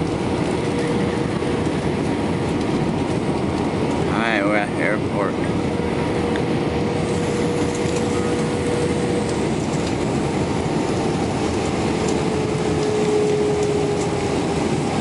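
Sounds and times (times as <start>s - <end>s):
jet engines whining: 0.0s - 15.0s
wheels rumbling on runway: 0.0s - 15.0s.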